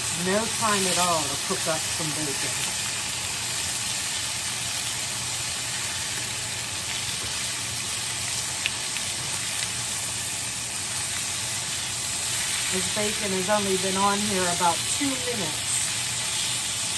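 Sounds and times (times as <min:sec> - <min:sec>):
bacon sizzling in a skillet: 0:00.0 - 0:16.9.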